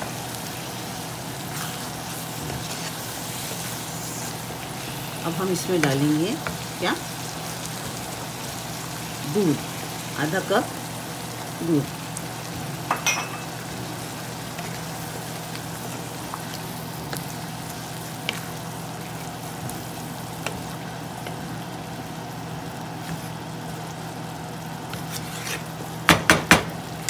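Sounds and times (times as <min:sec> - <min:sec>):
curry sizzling in a wok: 0:00.0 - 0:27.0.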